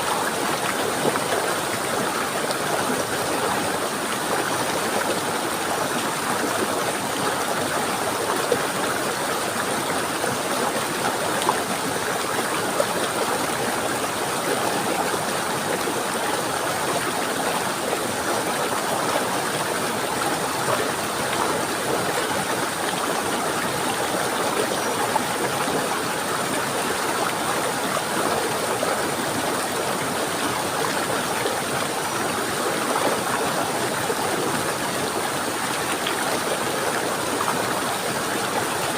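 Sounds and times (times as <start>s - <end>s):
stream water rushing and gurgling: 0.0s - 38.9s.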